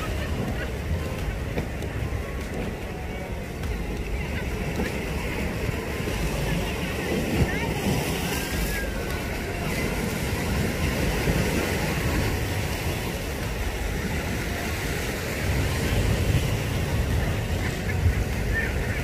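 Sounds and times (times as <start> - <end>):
sea waves on shore: 0.0 - 19.0
wind buffeting microphone: 0.0 - 19.0.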